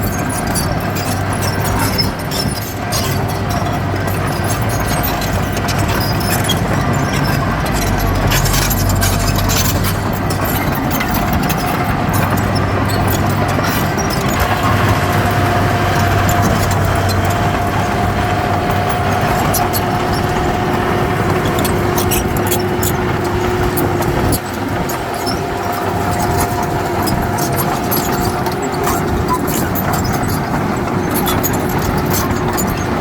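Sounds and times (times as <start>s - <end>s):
diesel machine engine running: 0.0s - 33.0s
light clicks and clatter: 0.0s - 33.0s.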